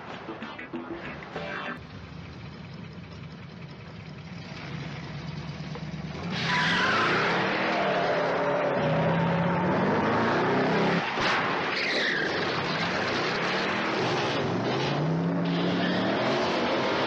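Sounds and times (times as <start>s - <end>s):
car engine idling and revving: 1.8s - 17.0s.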